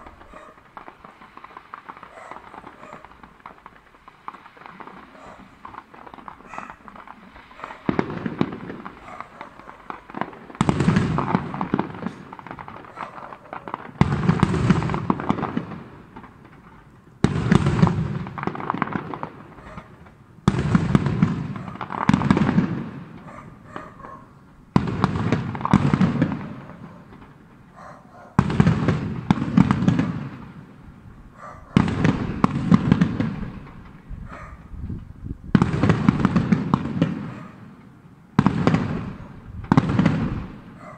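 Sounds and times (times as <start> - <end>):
crackle of small firework bursts: 0.0 - 40.9
fireworks bangs: 0.0 - 40.9.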